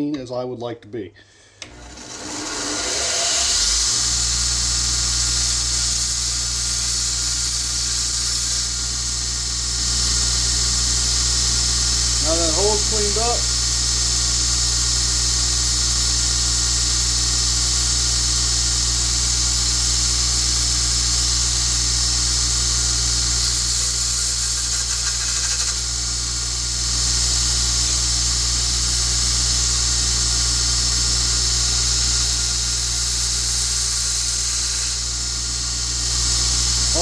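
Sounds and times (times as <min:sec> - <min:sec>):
electric grinder grinding steel: 0:01.6 - 0:37.0.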